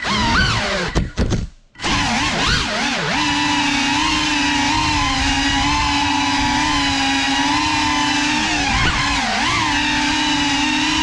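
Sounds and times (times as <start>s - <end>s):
drone propellers whining: 0.0s - 1.2s, 1.8s - 11.0s.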